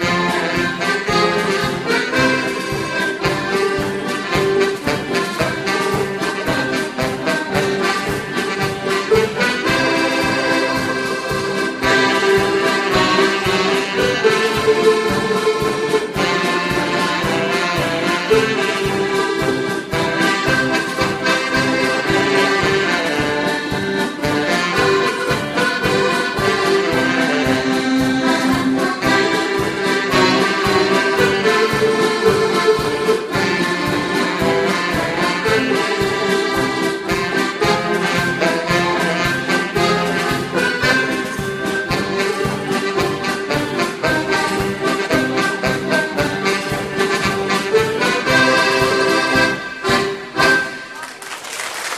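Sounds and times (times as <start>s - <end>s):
drum kit beat: 0.0s - 51.0s
brass horn: 0.0s - 51.1s
accordions playing melody: 0.0s - 51.2s
alto saxophone: 0.0s - 51.2s.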